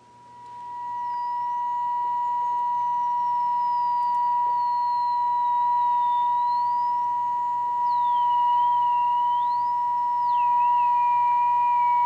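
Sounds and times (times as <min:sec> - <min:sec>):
high whistle sliding in pitch: 0:00.3 - 0:12.0
radio test tone: 0:00.4 - 0:12.0.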